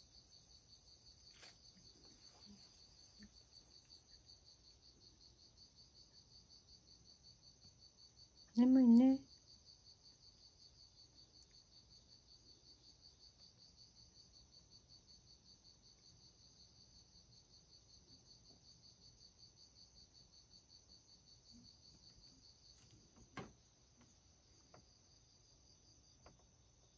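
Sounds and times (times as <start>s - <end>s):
high insect chirping: 0.0s - 26.9s.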